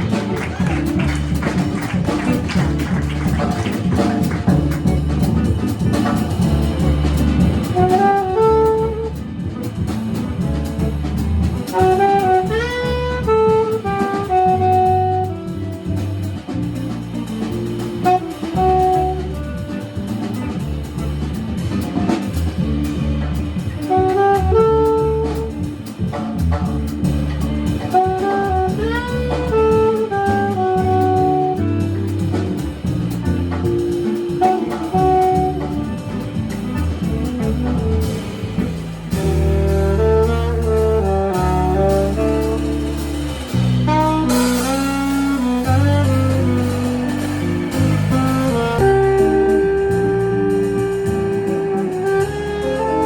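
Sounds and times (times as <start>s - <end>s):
bass: 0.0s - 53.0s
drums: 0.0s - 53.0s
horn playing jazz melody: 0.0s - 53.0s.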